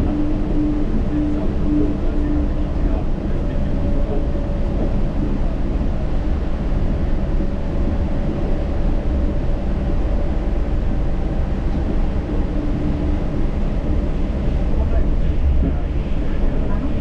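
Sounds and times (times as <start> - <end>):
train running low rumble: 0.0 - 17.0.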